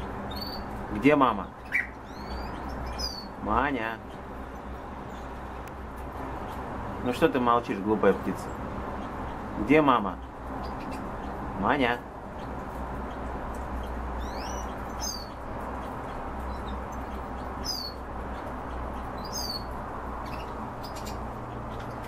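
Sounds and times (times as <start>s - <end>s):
caged birds chirping: 0.0s - 22.0s.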